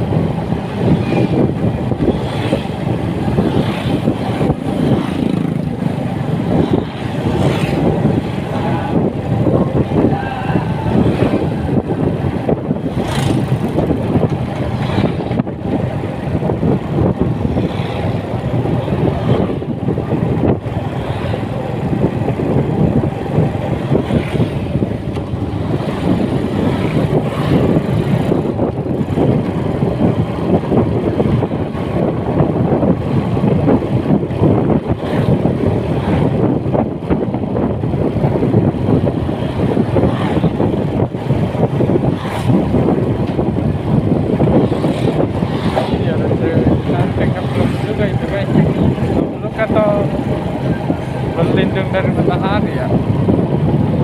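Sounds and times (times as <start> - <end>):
motorcycle engine running: 0.0 - 10.0, 10.9 - 54.0
wind and road noise: 0.0 - 54.0.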